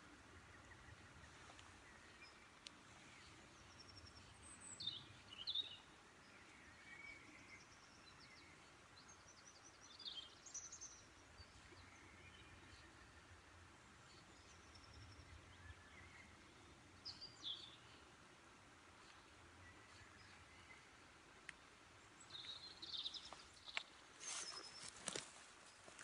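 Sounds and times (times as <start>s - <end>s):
birds chirping and twittering: 0.0s - 26.0s.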